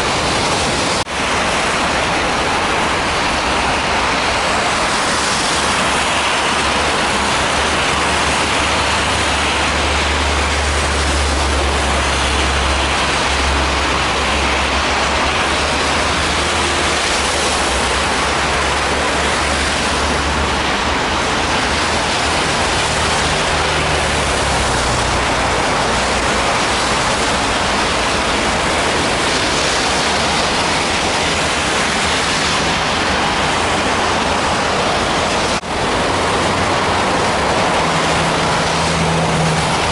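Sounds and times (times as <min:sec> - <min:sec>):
strong wind blowing: 0:00.0 - 0:39.9.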